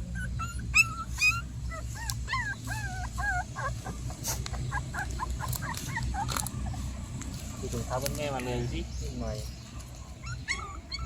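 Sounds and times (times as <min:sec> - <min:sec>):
puppies whimpering and yipping: 0:00.0 - 0:08.0, 0:09.4 - 0:11.0.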